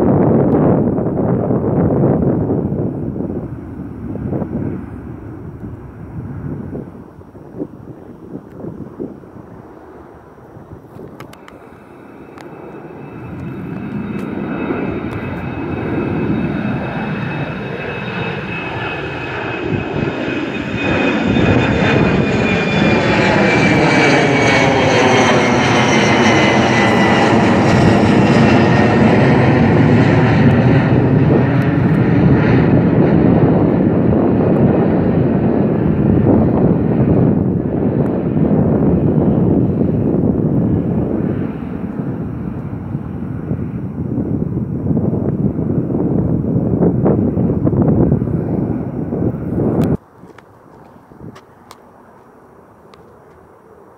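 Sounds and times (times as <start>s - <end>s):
high jet whine: 0.0s - 53.9s
jet airliner engine noise: 0.0s - 53.9s.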